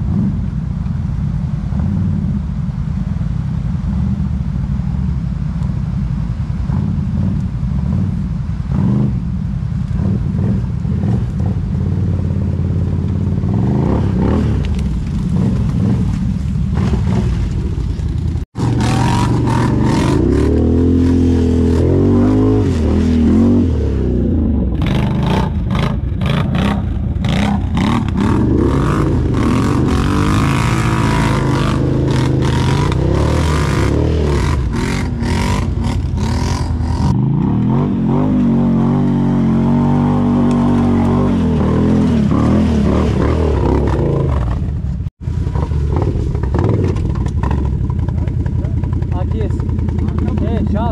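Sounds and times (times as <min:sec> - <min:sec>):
atv engine revving: 0:06.6 - 0:50.9.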